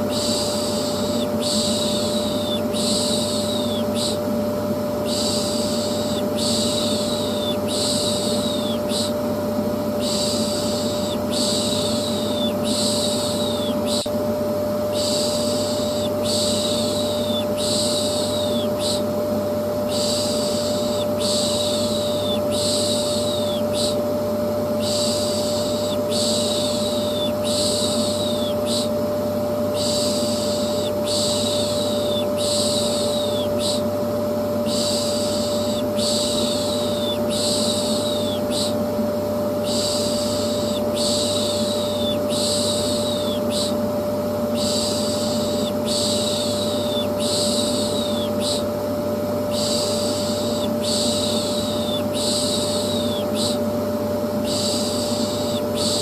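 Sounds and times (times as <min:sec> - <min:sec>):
vacuum cleaner humming: 0:00.0 - 0:56.0.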